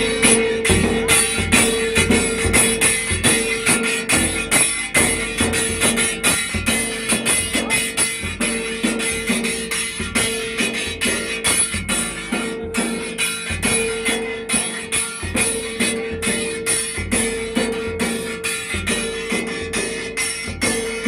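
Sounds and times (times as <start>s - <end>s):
drums beaten fast: 0.0s - 21.0s
held melodic note: 0.0s - 21.0s.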